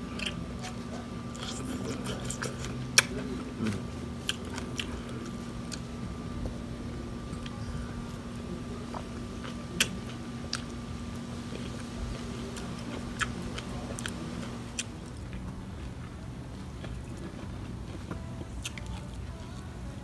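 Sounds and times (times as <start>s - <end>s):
people chewing: 0.0s - 6.6s, 7.2s - 19.7s
steady hum: 0.0s - 20.0s.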